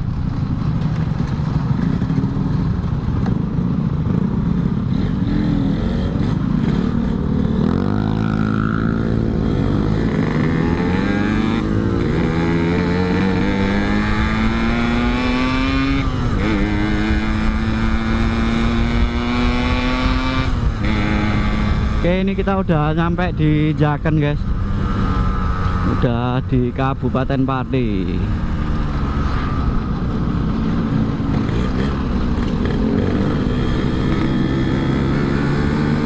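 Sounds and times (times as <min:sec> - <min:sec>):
motorcycle engine accelerating: 0:00.0 - 0:23.8, 0:27.8 - 0:36.0.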